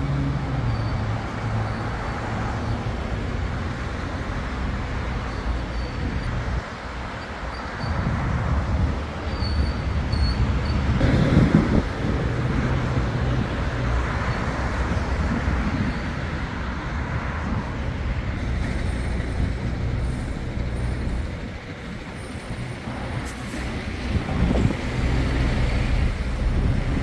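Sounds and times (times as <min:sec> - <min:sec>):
passing traffic rumble: 0:00.0 - 0:27.0.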